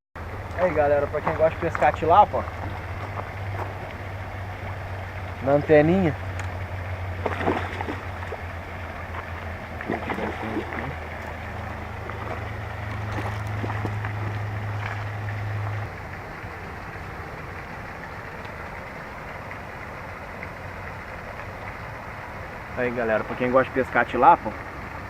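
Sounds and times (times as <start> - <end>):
low motor hum: 0.2 - 25.0
outdoor background noise: 0.2 - 25.0.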